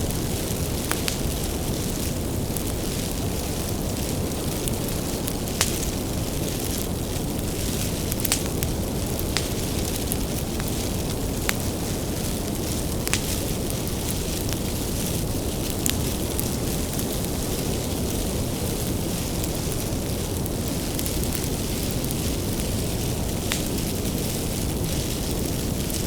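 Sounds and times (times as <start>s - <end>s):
firewood crackling and popping: 0.0s - 26.0s
low rumble of bonfire flames: 0.0s - 26.0s.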